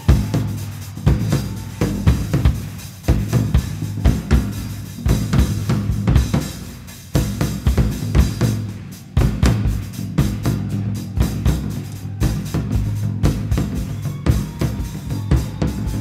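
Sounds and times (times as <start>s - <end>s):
drum kit playing: 0.0s - 16.0s.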